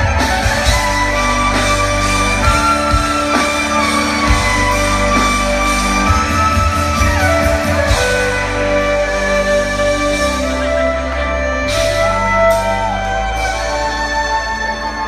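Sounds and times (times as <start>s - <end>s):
live amplified band music: 0.0s - 15.0s.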